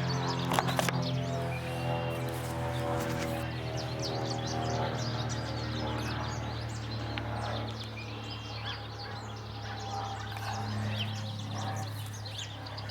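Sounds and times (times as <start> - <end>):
low droning hum: 0.0 - 12.9
small birds chirping: 0.0 - 12.9.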